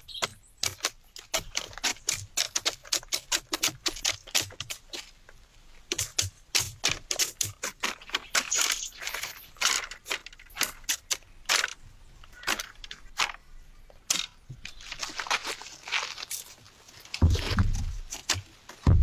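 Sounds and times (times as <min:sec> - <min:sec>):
leaves and twigs crunching: 0:00.0 - 0:19.0.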